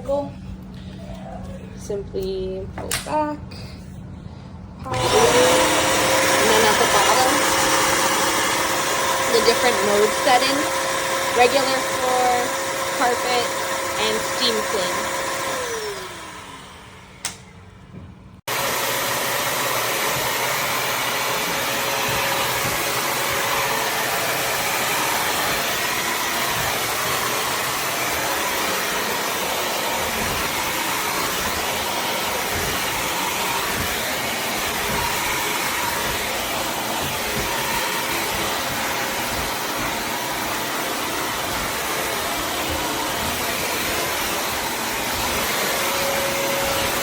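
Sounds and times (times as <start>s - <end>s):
floor cleaner motor running: 4.9s - 17.2s, 18.5s - 47.0s.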